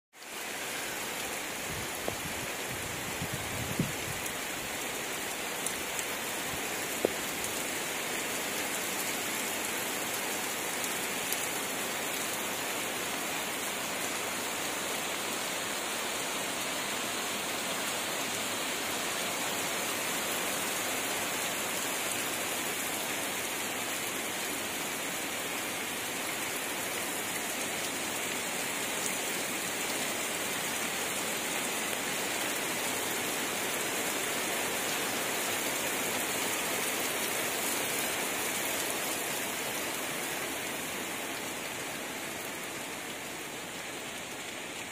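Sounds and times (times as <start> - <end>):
heavy rain falling: 0.2 - 44.9.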